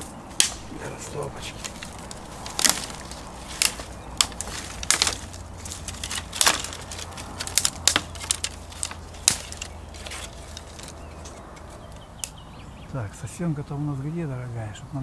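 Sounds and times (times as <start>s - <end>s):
dry twigs snapping: 0.0s - 12.5s.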